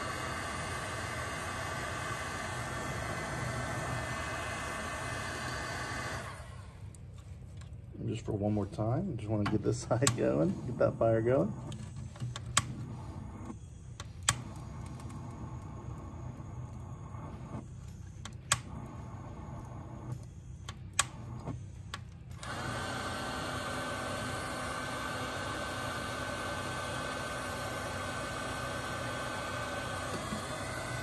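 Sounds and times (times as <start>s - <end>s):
air blower fan whine: 0.0s - 31.0s
torch flame humming: 0.0s - 31.0s.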